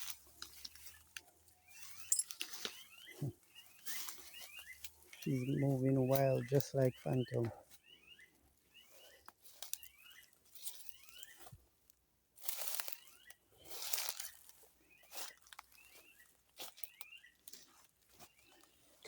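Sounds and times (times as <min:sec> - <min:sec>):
small birds chirping: 0:00.0 - 0:11.8, 0:12.4 - 0:19.0.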